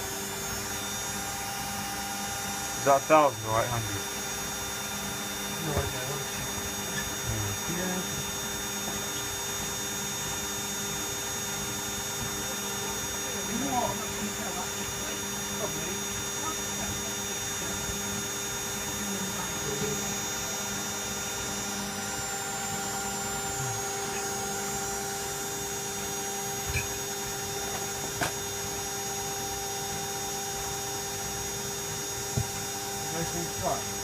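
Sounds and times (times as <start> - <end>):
washing machine spinning: 0.0 - 34.0.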